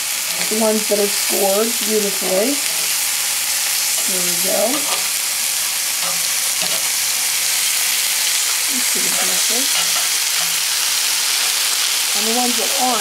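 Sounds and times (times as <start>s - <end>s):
chicken sizzling on a grill pan: 0.0s - 13.0s.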